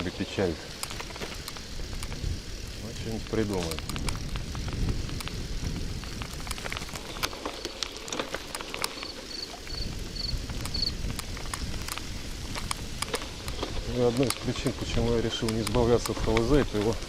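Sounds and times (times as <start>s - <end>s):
bicycle tyre rumble on dirt: 0.0s - 17.0s
wheels and chain clicking: 0.0s - 17.0s.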